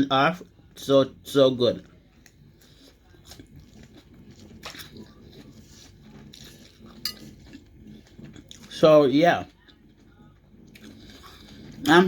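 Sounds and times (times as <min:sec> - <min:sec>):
person chewing crunchy salad: 0:01.8 - 0:12.0.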